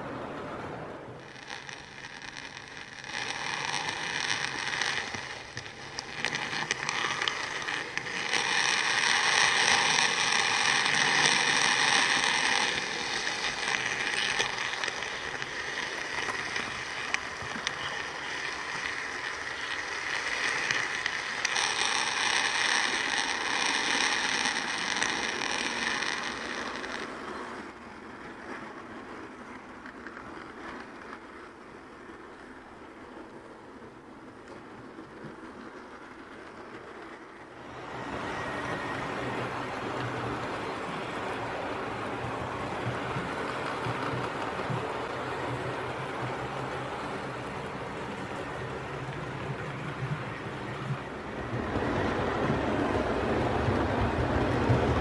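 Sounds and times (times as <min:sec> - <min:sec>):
model train rattling on track: 0:00.6 - 0:55.0.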